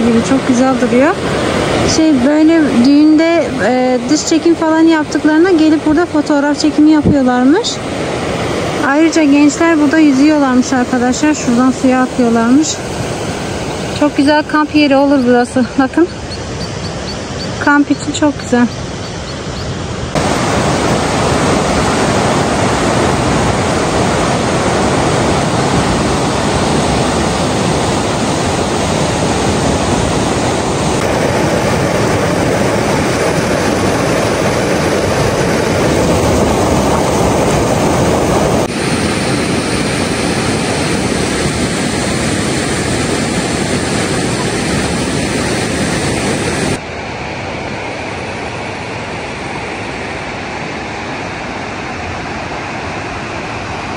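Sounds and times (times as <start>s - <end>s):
river rapids rushing: 0.0s - 53.9s.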